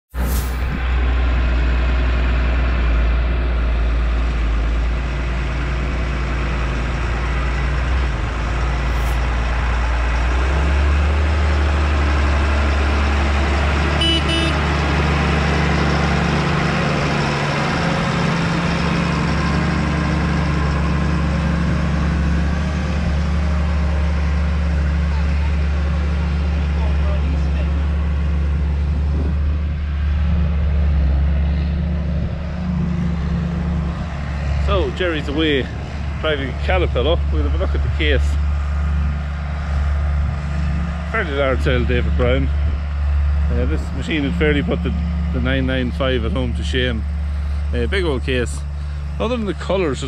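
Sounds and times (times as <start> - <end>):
tractor diesel engine running: 0.1 - 50.0.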